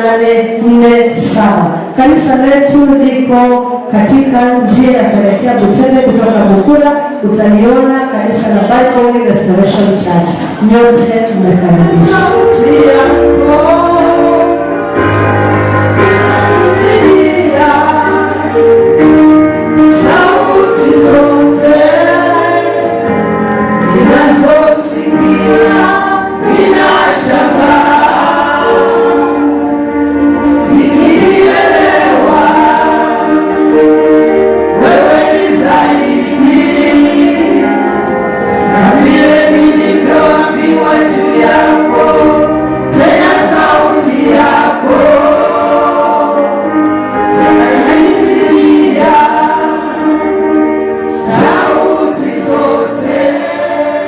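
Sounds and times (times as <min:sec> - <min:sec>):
gospel choir singing with music: 0:00.0 - 0:54.0.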